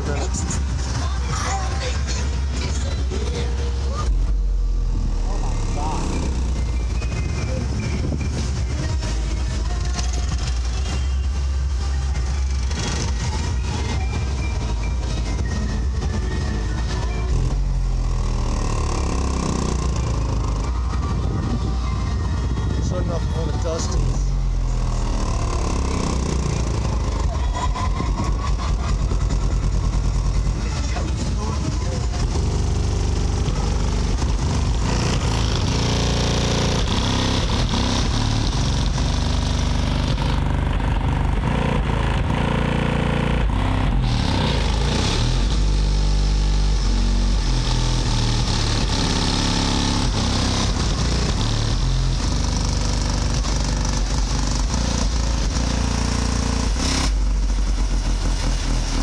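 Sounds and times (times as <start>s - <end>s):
loud music with subwoofer bass: 0.0s - 59.0s.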